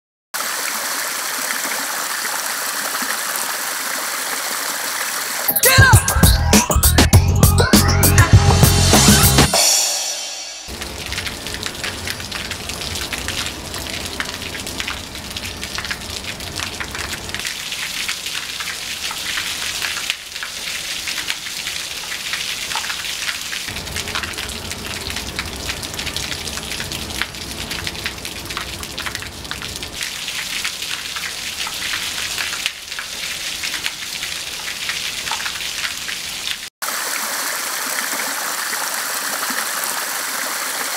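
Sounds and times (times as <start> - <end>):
fountain spray splashing: 0.4 - 5.6, 10.7 - 40.9
rushing water: 0.4 - 6.9, 8.2 - 40.9.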